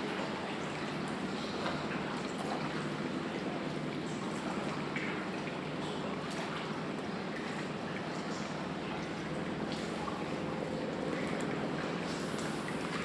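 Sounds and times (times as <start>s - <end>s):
choppy water sloshing: 0.0s - 13.0s.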